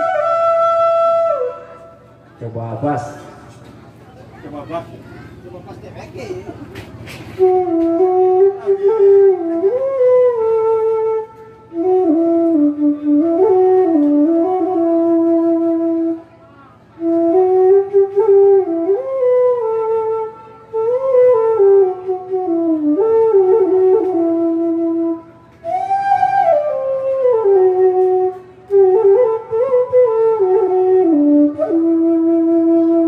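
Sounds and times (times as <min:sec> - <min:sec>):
bamboo flute melody: 0:00.0 - 0:03.7, 0:04.4 - 0:33.0.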